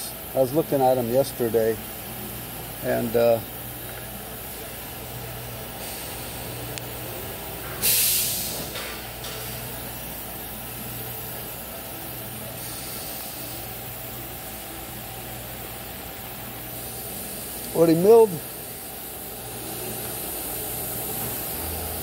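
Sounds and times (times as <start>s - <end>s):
compressed air hissing: 0.0s - 22.0s
steady machine hum: 0.0s - 22.0s.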